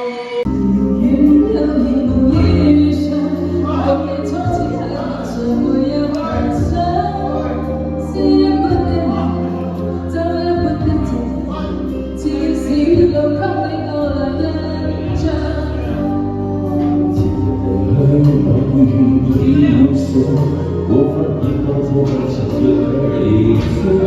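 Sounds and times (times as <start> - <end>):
person singing: 0.0 - 24.0
held bass notes: 0.5 - 24.0.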